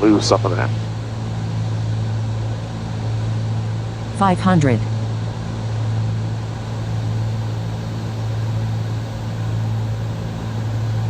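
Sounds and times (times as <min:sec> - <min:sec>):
propeller aircraft engines droning: 0:00.0 - 0:11.0.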